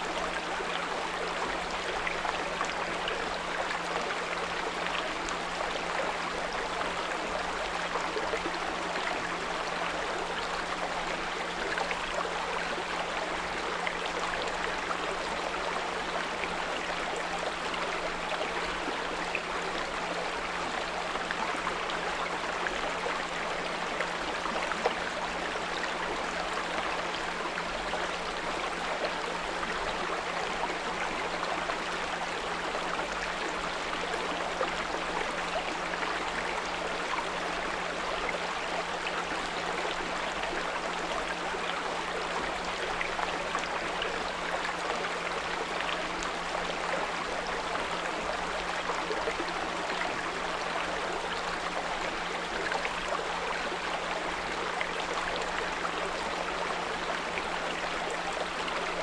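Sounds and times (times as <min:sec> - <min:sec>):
small brook trickling: 0:00.0 - 0:59.0.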